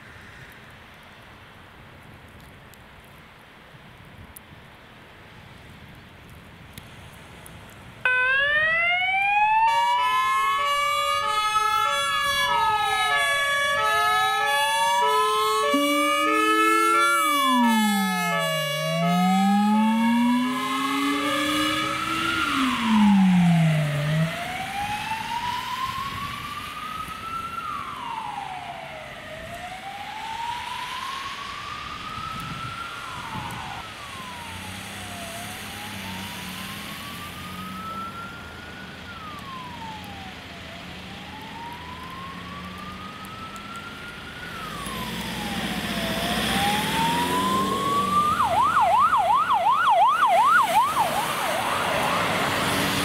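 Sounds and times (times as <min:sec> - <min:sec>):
emergency vehicle siren: 0:08.0 - 0:53.0.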